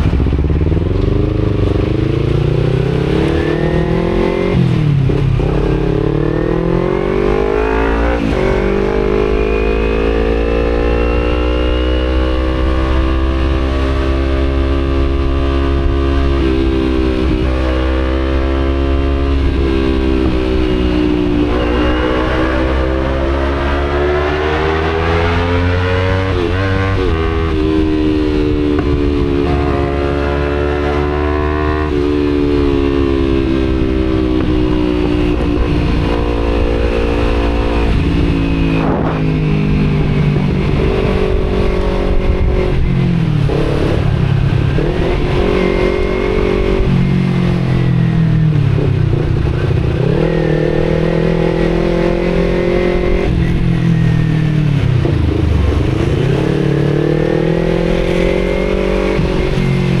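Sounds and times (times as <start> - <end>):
motorcycle engine revving: 0.0 - 60.0
wind rumble on microphone: 0.0 - 60.0.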